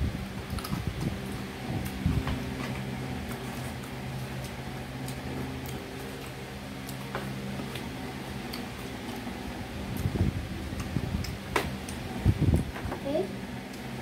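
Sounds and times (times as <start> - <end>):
fan motor humming: 0.0 - 14.0.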